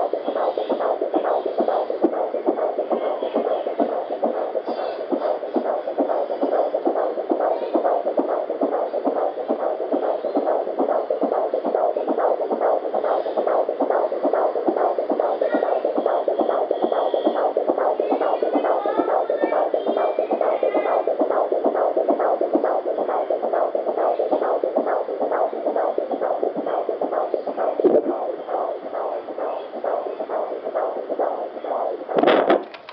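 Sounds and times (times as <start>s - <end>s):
fetal heartbeat on doppler: 0.0s - 32.9s.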